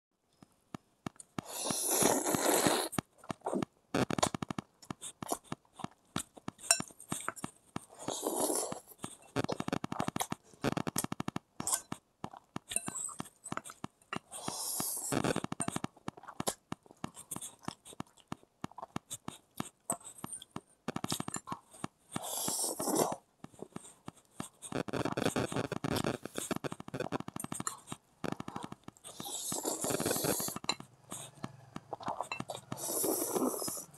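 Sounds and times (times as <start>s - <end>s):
wet smacking chewing: 1.1s - 33.9s
noodle slurps: 1.4s - 5.9s, 6.6s - 11.0s, 11.6s - 20.2s, 20.9s - 23.7s, 24.5s - 33.9s.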